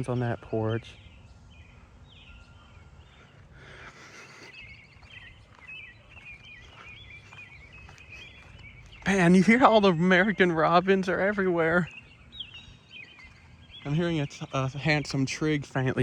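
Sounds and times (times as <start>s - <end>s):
low outdoor background hum: 0.0s - 16.0s
robins singing: 0.0s - 16.0s.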